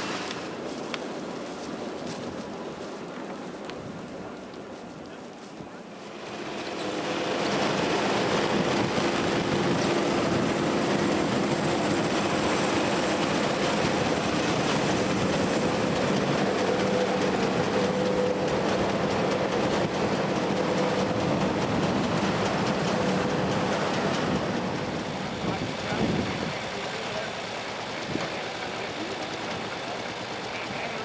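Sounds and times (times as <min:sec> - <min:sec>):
harvest machinery clattering: 0:00.0 - 0:00.8, 0:06.0 - 0:31.0.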